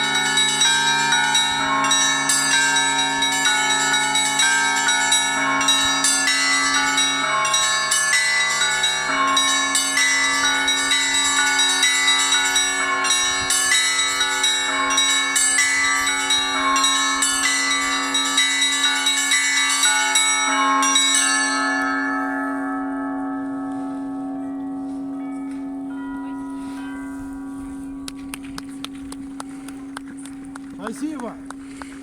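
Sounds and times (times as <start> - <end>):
low bell hum: 0.0 - 32.0
small church bells ringing: 0.0 - 32.0.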